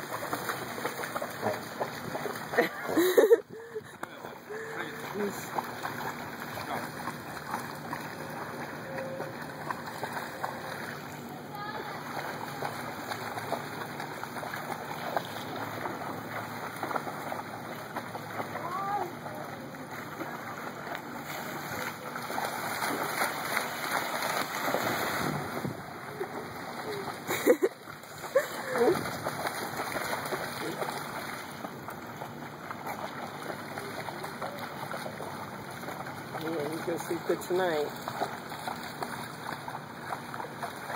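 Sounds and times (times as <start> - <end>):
splashing through shallow water: 0.0 - 40.9.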